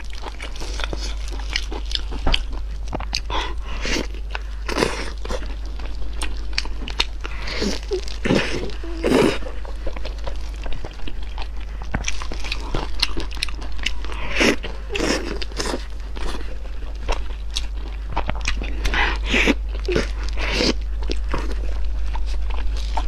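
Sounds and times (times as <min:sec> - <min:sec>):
person chewing meat: 0:00.0 - 0:23.0.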